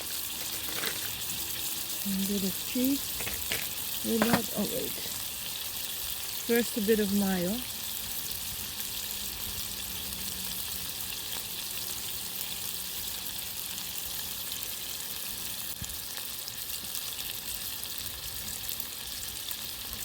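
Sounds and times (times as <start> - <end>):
patties sizzling in a frying pan: 0.0 - 20.0.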